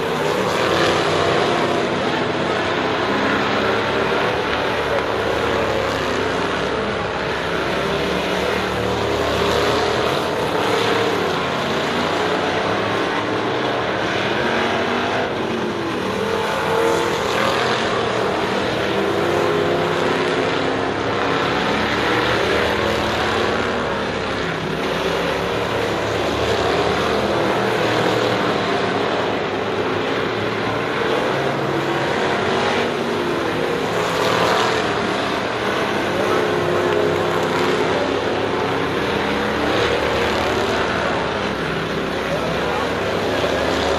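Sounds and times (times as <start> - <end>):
race car engines passing: 0.0 - 43.9.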